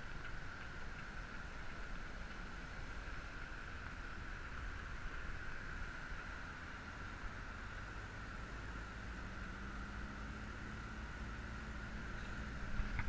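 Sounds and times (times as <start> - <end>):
car traffic: 0.0 - 13.0
wind: 0.0 - 13.0.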